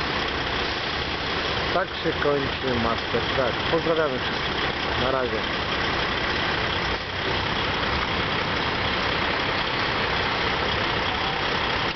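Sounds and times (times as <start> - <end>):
truck diesel engines idling: 0.0 - 11.9.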